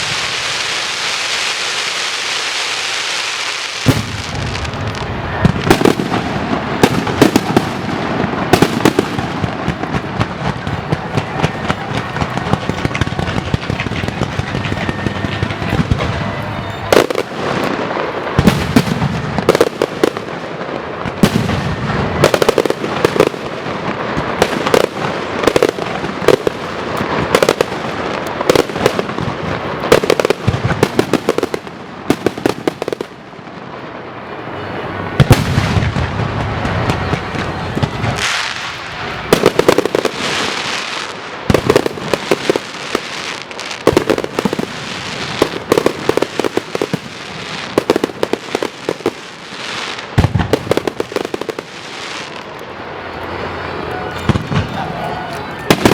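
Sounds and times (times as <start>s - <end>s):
firecrackers banging and crackling: 0.0s - 55.9s.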